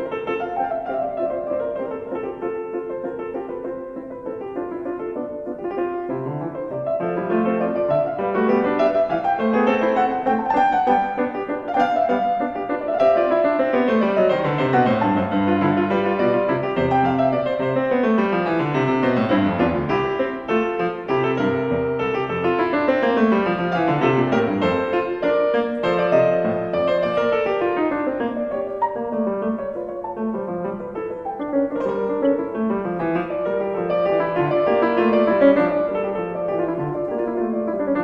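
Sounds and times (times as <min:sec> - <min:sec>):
piano music with flowing runs: 0:00.0 - 0:38.0.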